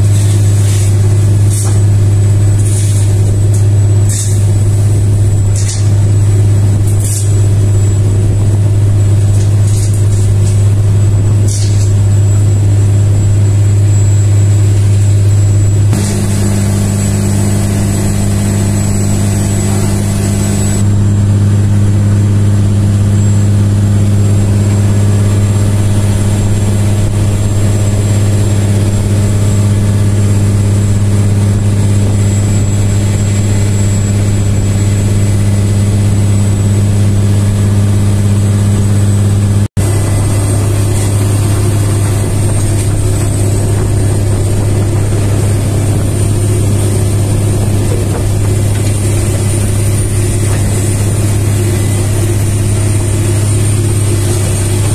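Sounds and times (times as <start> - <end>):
diesel engine drone with whine: 0.0 - 54.9.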